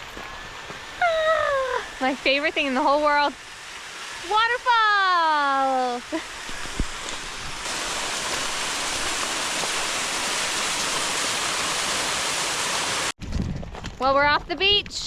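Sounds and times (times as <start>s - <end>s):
waterfall rushing: 0.8s - 13.2s.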